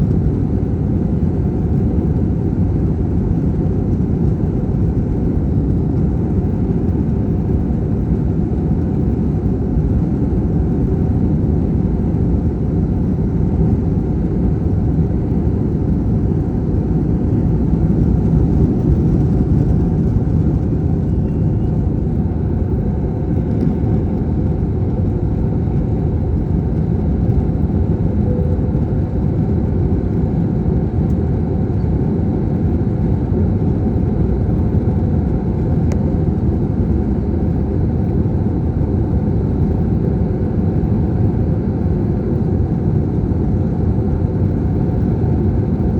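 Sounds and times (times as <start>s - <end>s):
jet engine rumble in cabin: 0.0s - 45.9s.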